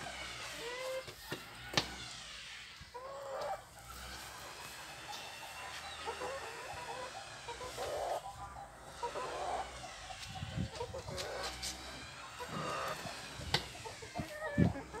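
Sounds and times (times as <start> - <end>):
hen clucking: 0.0 - 1.9, 2.7 - 15.0.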